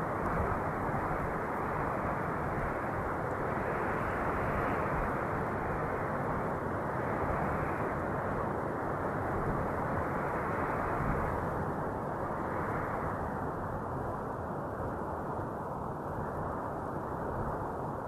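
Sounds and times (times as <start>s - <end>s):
rushing wind: 0.0s - 18.0s.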